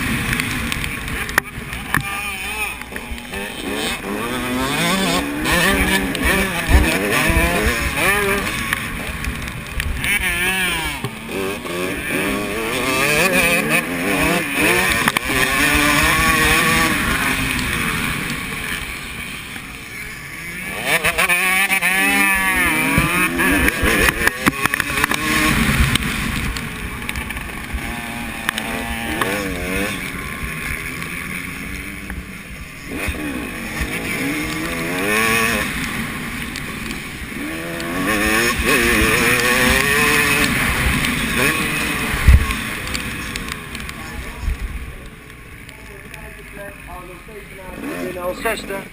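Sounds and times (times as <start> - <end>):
motocross bikes revving: 0.0 - 48.9.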